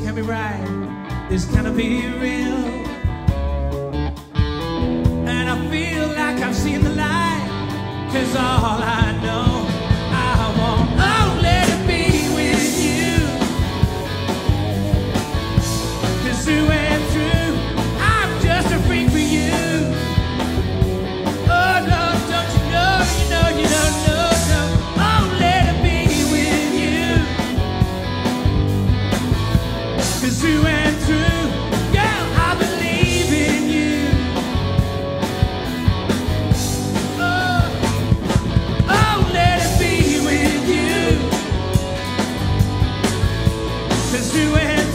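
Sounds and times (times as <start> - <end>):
bending lead guitar melody: 0.0 - 44.9
rock band playing: 0.0 - 44.9
drums steady beat: 2.8 - 44.9.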